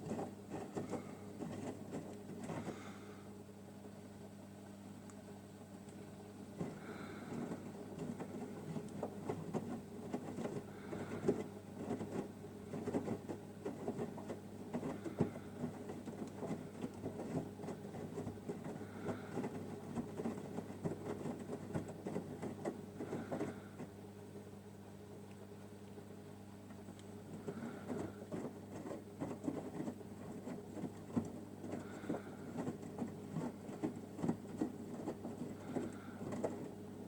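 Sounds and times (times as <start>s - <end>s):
washing machine hum: 0.0s - 37.0s.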